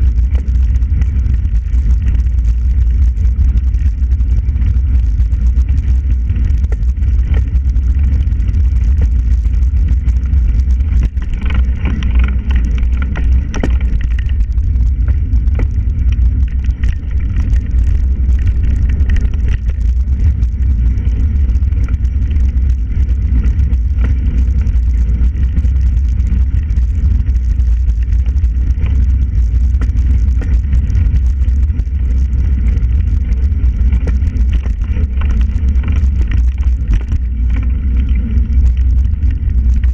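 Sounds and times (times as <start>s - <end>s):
bicycle knocks and rattles: 0.0s - 39.9s
wind rumble on microphone: 0.0s - 39.9s.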